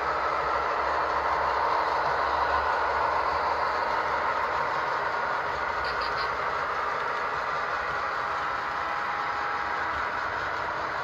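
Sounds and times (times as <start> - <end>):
model train wheels and motor whirring: 0.0 - 11.0.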